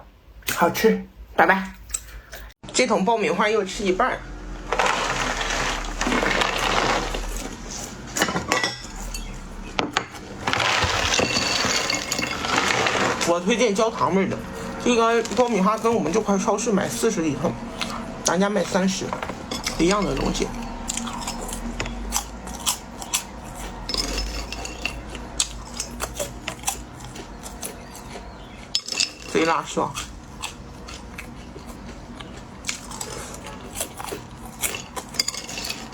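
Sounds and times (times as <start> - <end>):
crunching while eating: 3.7 - 35.9
tableware clinking: 4.6 - 35.9.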